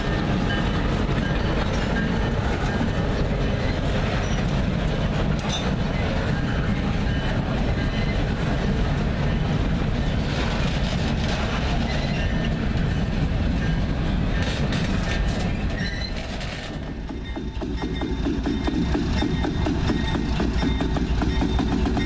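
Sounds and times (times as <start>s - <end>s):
freight train rumbling: 0.0s - 22.0s
steel wheels clattering on rails: 0.0s - 22.0s.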